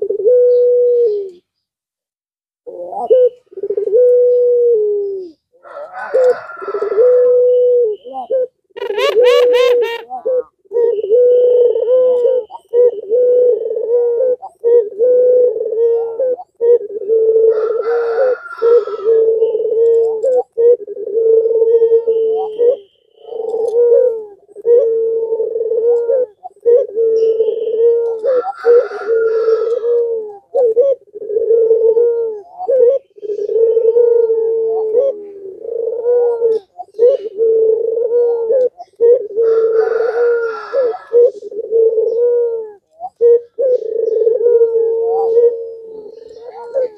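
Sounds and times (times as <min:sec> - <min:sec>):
dove cooing: 0:00.0 - 0:01.5, 0:02.7 - 0:46.9.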